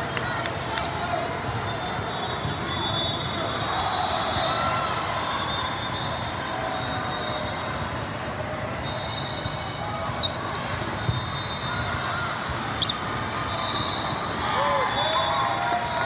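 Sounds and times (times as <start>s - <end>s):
crowd chatter: 0.0s - 16.0s.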